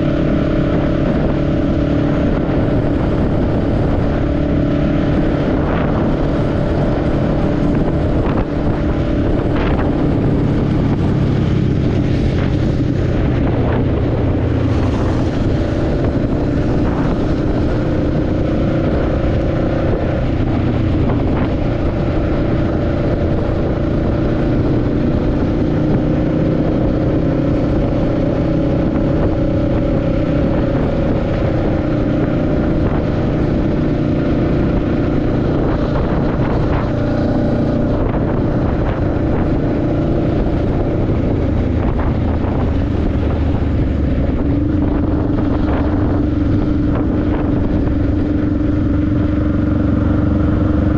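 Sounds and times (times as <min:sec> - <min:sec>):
motorcycle engine running: 0:00.0 - 0:50.9
wind rush on microphone: 0:00.0 - 0:50.9.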